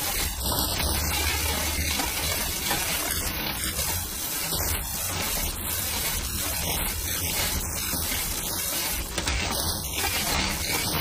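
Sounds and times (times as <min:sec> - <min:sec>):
bicycle chain grinding: 0:00.0 - 0:11.0.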